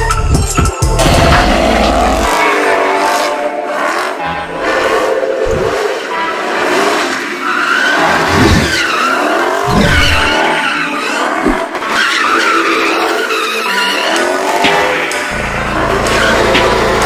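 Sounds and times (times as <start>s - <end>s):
engine revving: 0.9s - 17.0s
car tyres squealing: 1.0s - 17.0s.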